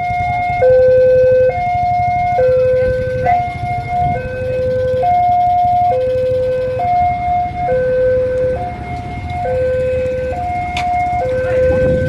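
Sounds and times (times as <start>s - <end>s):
two-tone warning siren: 0.0s - 12.0s.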